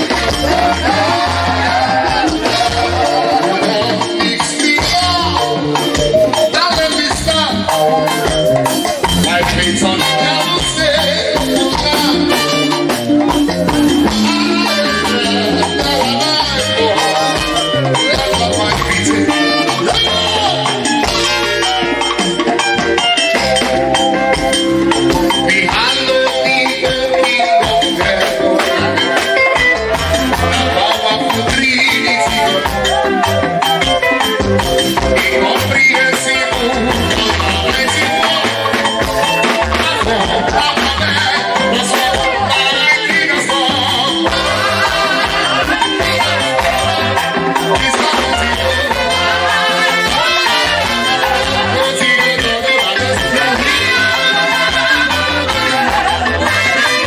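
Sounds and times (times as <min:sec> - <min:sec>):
bass line: 0:00.0 - 0:57.0
gospel band playing: 0:00.0 - 0:57.0
keyboard: 0:00.0 - 0:57.0.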